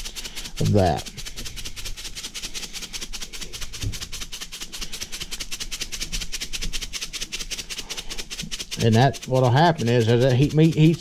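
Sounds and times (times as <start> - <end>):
salt grains scattering onto meat: 0.0 - 11.0
salt rattling in a shaker: 0.0 - 11.0.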